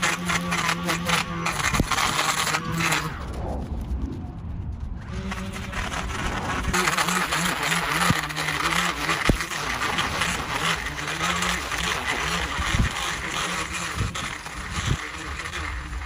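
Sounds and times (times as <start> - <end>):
blade hissing through dirt: 0.0 - 3.9, 5.0 - 16.0
edger motor hum: 0.0 - 16.0.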